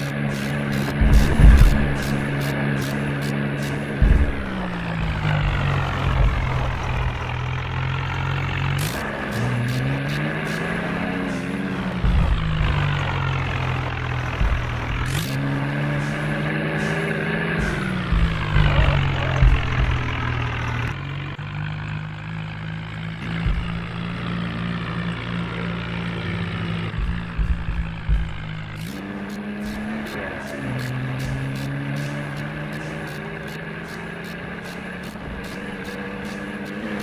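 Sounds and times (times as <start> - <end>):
low bumps: 0.0 - 37.0
tractor diesel engine running: 0.0 - 37.0.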